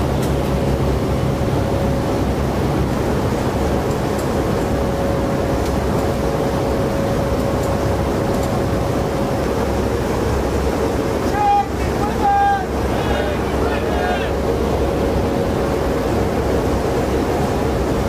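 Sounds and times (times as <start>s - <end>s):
aircraft engine roar: 0.0s - 18.0s
thin steady whine: 0.0s - 18.0s.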